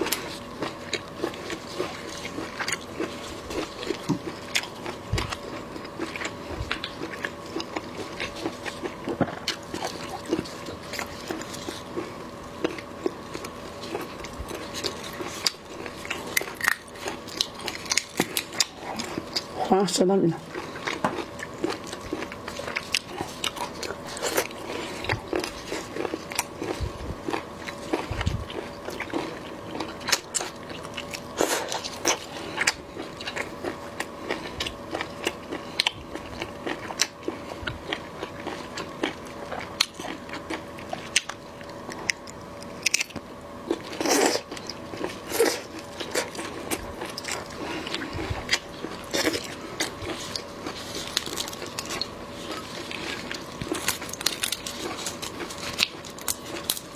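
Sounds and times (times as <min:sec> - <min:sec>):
chewing and crunching prawns: 0:00.0 - 0:56.9.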